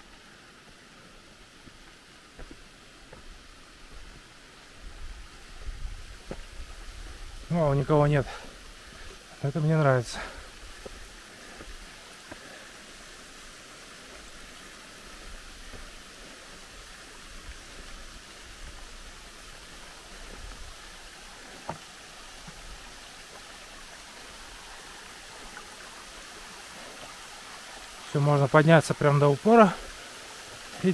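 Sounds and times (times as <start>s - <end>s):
waterfall and stream rushing: 0.0s - 30.9s.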